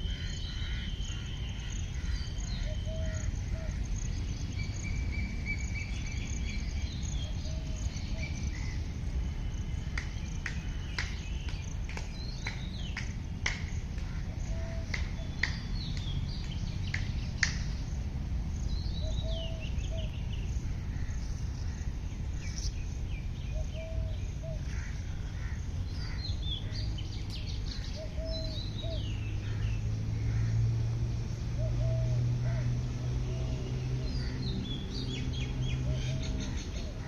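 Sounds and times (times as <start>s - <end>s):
birds singing and chirping: 0.0s - 37.0s
steady low rumble: 0.0s - 37.0s.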